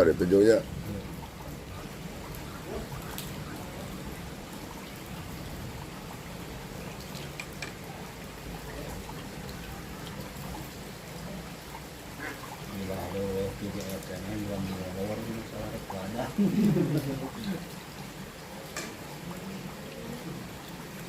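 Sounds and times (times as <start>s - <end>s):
steady rain falling: 0.0s - 21.0s
ticks of raindrops: 0.0s - 21.0s.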